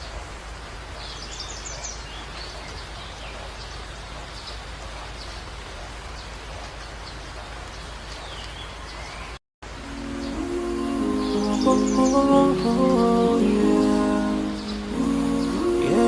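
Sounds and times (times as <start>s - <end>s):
rain-like hiss: 0.0s - 16.0s
small birds chirping: 0.0s - 16.0s.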